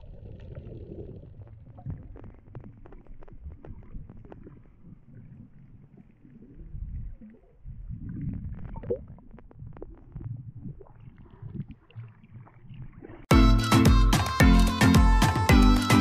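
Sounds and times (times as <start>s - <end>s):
water bubbling: 0.0s - 13.3s
water sloshing underwater: 0.0s - 13.3s.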